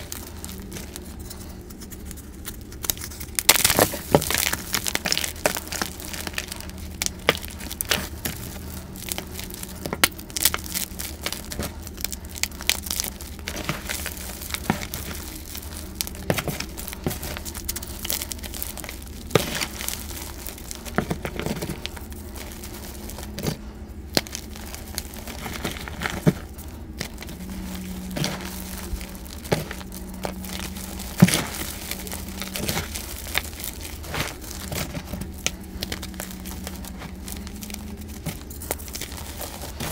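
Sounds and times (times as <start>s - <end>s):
chalk crunching and cracking: 0.0s - 39.9s.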